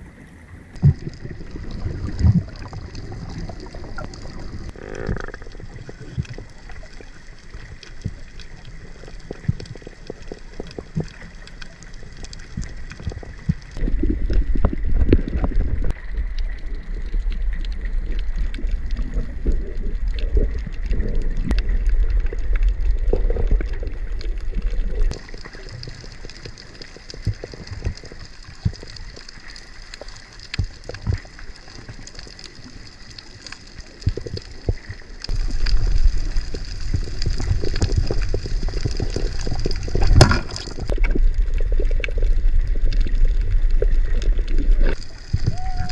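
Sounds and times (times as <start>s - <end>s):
low rumble of water: 0.0s - 45.9s
muffled underwater wash: 0.0s - 45.9s.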